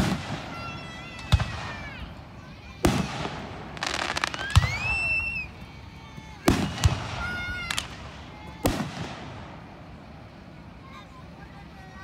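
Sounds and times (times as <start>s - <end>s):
fireworks bangs: 0.0s - 10.8s
fireworks whistling: 0.0s - 11.7s.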